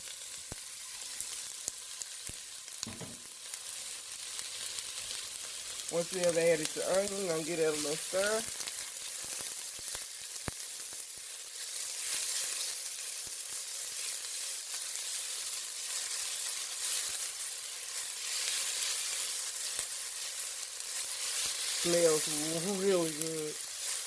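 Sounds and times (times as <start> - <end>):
onion sizzling in oil: 0.0 - 24.0.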